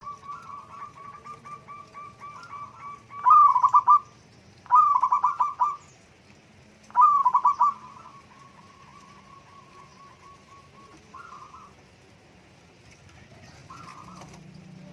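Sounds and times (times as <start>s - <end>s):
loud rippling coo: 0.0s - 5.9s, 6.9s - 11.9s, 12.9s - 14.9s
doves cooing: 0.0s - 14.9s.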